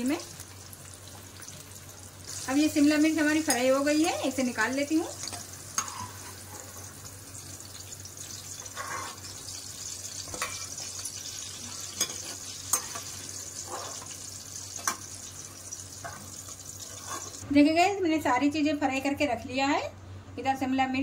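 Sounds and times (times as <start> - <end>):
hot oil sizzling in a pan: 0.0 - 17.4.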